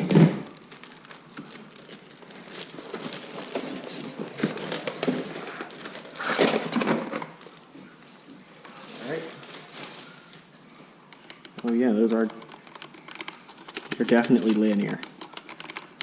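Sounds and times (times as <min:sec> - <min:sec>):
packaging rustling: 0:00.0 - 0:10.6, 0:11.2 - 0:16.0.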